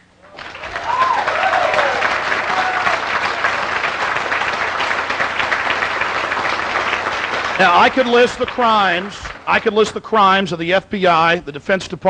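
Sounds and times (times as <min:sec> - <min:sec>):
audience applauding: 0:00.2 - 0:10.0.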